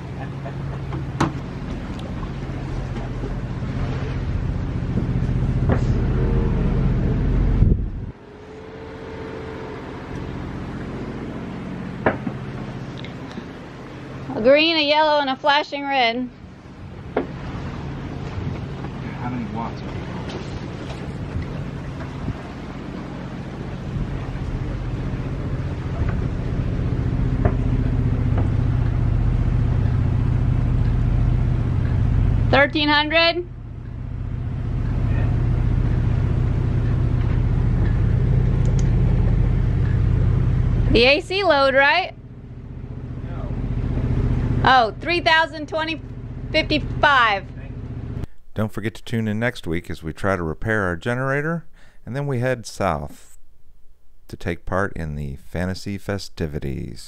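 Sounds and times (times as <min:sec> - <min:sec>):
boat machinery drone: 0:00.0 - 0:57.0.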